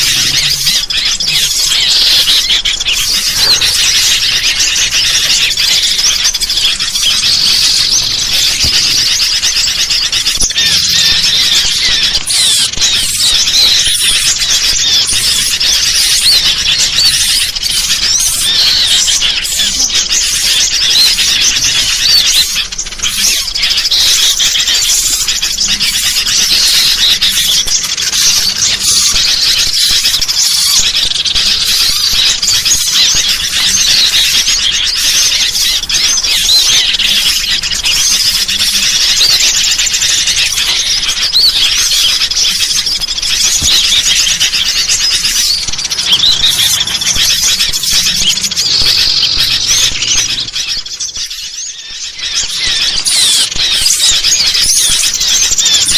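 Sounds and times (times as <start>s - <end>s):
bulbuls chattering: 0.0s - 55.9s
small birds chirping: 0.0s - 55.9s.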